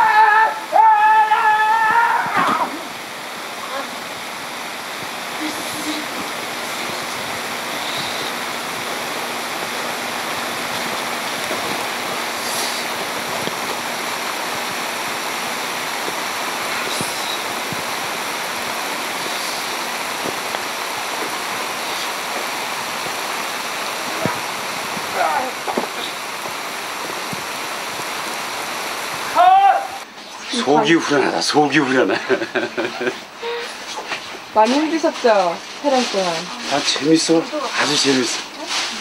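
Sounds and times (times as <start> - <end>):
artificial rain hissing onto ground: 0.0 - 39.0.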